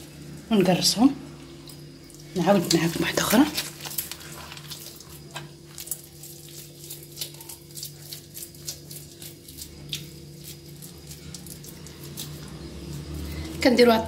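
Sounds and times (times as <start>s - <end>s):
wet dough squelching in hands: 0.0s - 14.0s.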